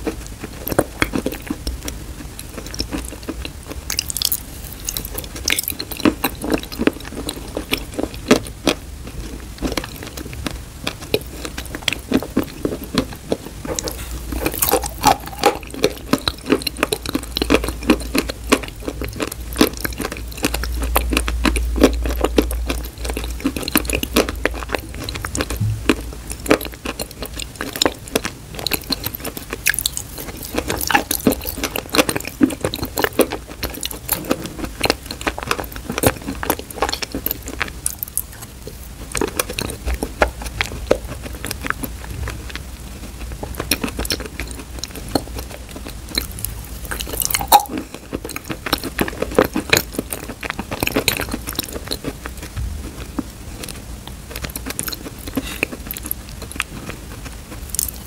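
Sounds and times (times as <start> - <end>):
wet sticky chewing: 0.0 - 58.0.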